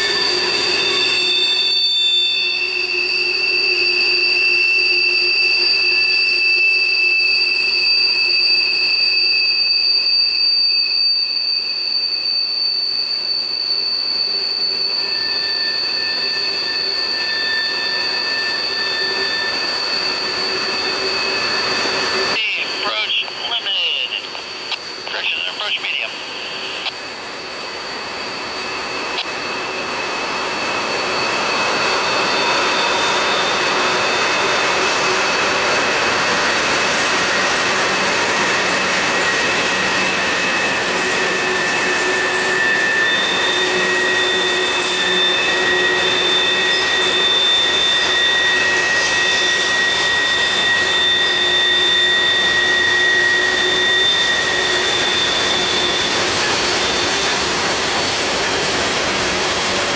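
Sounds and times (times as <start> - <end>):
steel wheels rolling on rail: 0.0 - 22.4, 26.0 - 59.9
wheel flanges squealing: 0.0 - 25.0, 27.4 - 59.9.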